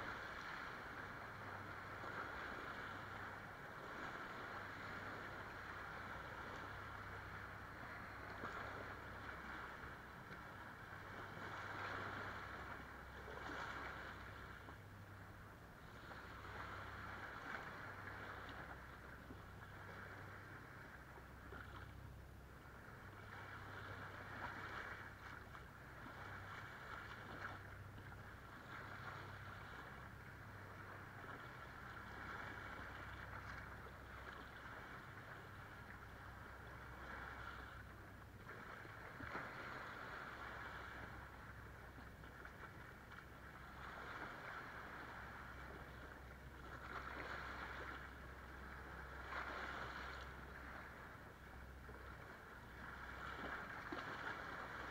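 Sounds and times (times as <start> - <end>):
small waves washing over rocks: 0.0 - 54.9.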